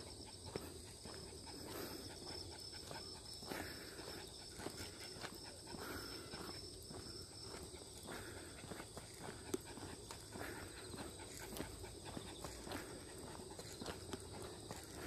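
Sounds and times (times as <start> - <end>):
footsteps on path: 0.0 - 15.0
high insect drone: 0.0 - 15.0
pulsing insect trill: 0.0 - 15.0.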